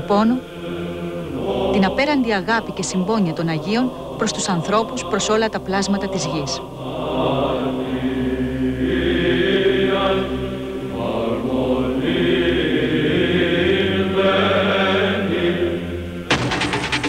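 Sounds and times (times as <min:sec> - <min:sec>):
voices chanting slow melody: 0:00.0 - 0:16.3
low held drone: 0:00.0 - 0:16.4.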